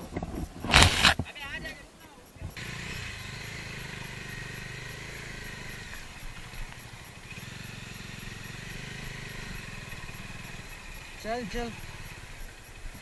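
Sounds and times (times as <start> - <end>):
high-pitched hiss: 0.0 - 13.0
motorcycle engine running: 2.5 - 13.0.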